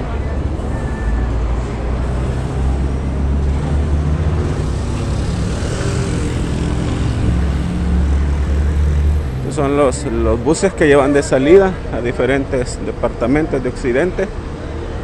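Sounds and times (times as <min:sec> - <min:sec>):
diesel bus engines droning: 0:00.0 - 0:15.0.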